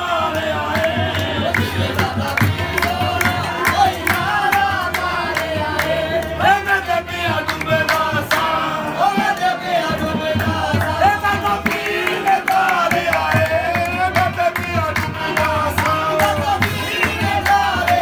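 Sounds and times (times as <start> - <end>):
harmonium: 0.0 - 18.0
men singing: 0.0 - 18.0
percussive beats: 0.7 - 6.2, 7.1 - 18.0.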